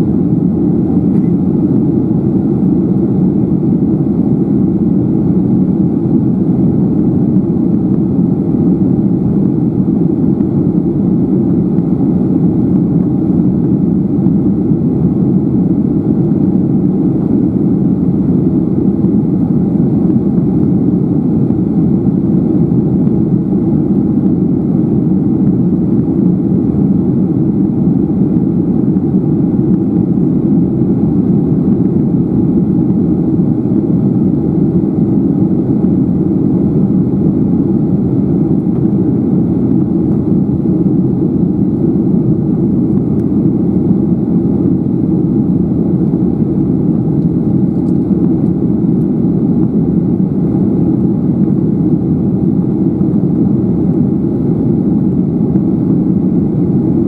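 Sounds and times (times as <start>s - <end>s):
jet engines and airflow rumble: 0.0s - 57.0s.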